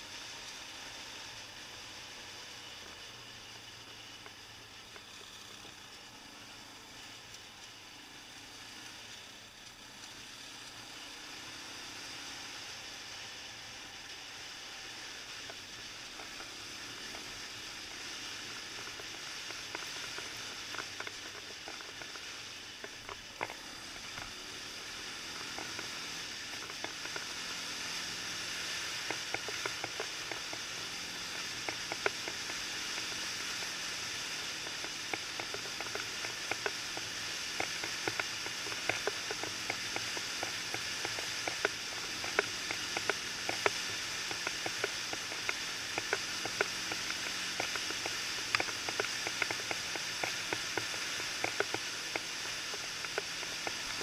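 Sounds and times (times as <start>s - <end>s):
quad bike engine: 0.0s - 54.0s
wind and road noise hiss: 0.0s - 54.0s
gravel clicks and ticks: 0.1s - 54.0s.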